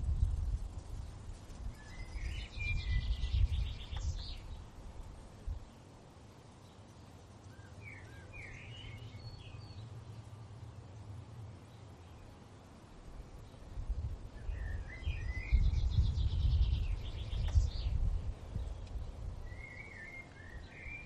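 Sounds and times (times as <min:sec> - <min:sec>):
birds chirping: 0:00.8 - 0:21.0.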